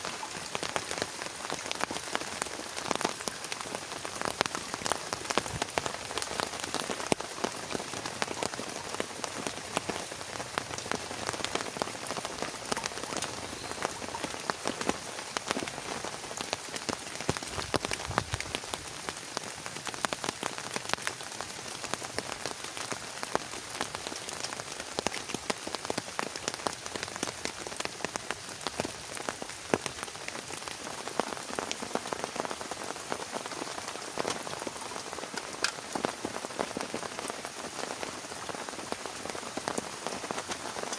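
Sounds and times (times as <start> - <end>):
heavy rain hiss: 0.0 - 40.9
raindrops hitting surface: 0.0 - 40.9.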